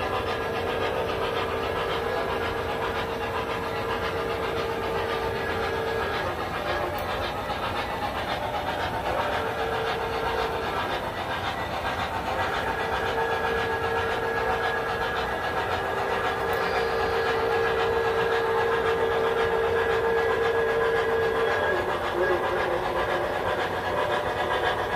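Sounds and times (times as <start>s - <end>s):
model train wheels clattering: 0.0s - 24.9s
steady hum: 0.0s - 24.9s.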